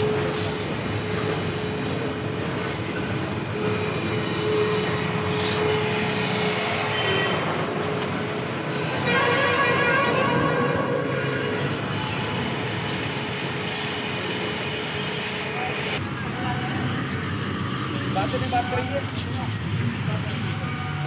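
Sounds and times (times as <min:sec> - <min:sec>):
machine humming and droning: 0:00.0 - 0:21.0.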